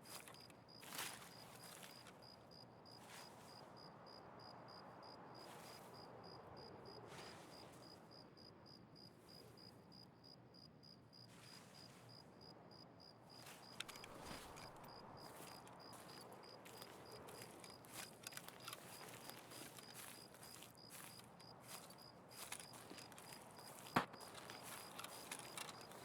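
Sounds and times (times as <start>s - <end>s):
faint insect chirping: 0.0s - 26.0s.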